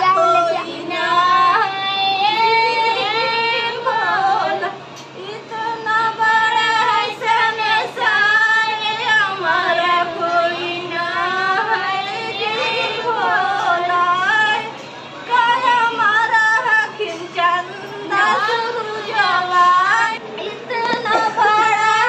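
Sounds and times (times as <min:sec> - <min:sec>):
women singing together: 0:00.0 - 0:22.0.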